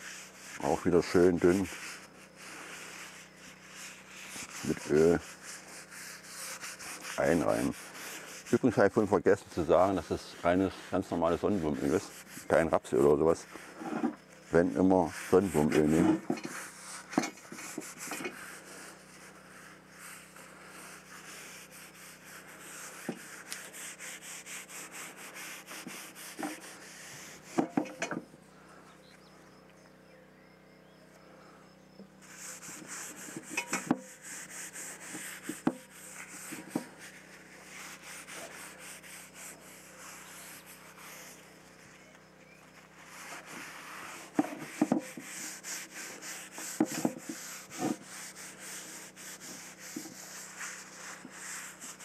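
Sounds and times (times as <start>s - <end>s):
paper towel scrubbing: 0.0s - 28.0s, 32.2s - 52.0s.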